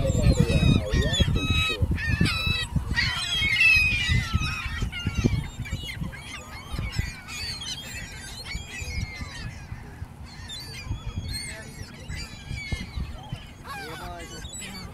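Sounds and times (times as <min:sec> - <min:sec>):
gulls calling harshly: 0:00.0 - 0:14.9.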